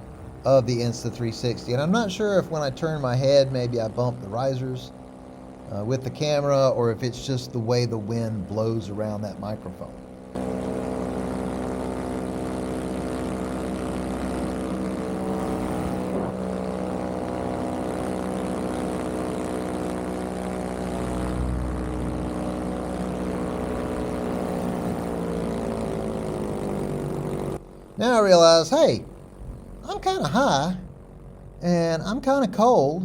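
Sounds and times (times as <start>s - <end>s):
paramotor engine and propeller: 0.0s - 33.0s.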